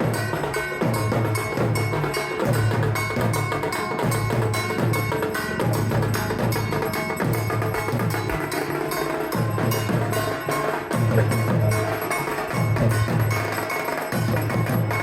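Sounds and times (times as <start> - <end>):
barrel drum played fast: 0.0 - 15.0.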